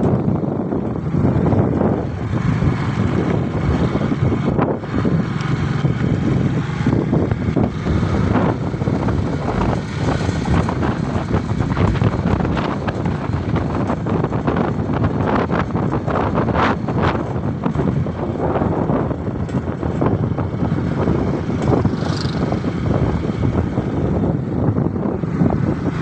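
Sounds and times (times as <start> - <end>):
motorcycle engine: 0.0 - 26.0
road noise: 0.0 - 26.0
wind buffeting on microphone: 0.0 - 26.0.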